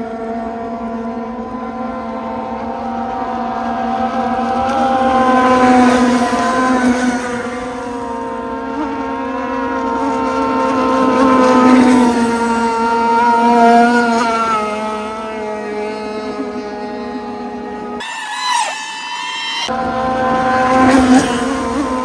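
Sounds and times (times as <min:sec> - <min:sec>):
model boat two-stroke engine: 0:00.0 - 0:18.0, 0:19.7 - 0:22.0.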